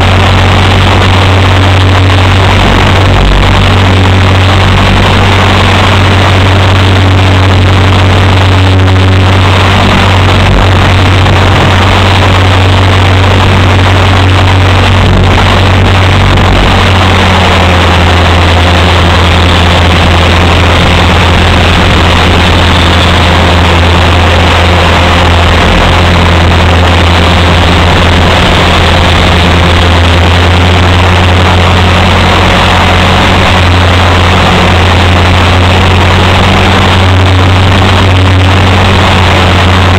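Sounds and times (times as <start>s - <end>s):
low even hum: 0.0s - 39.9s
rc helicopter rotor drone: 0.0s - 39.9s.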